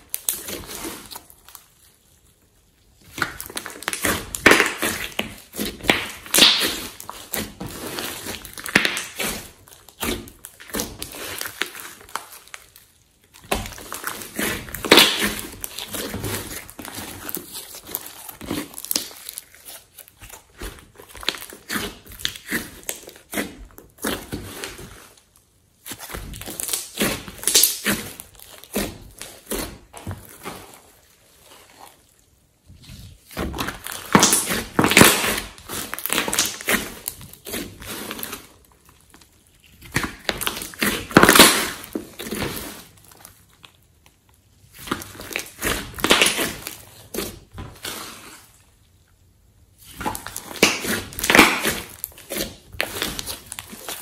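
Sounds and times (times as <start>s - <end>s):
sticky slime crackling: 0.0s - 54.0s.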